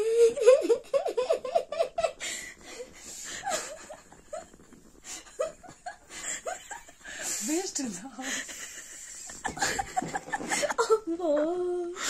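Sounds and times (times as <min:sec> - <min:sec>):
girl giggling with helium voice: 0:00.0 - 0:07.4, 0:08.5 - 0:12.0.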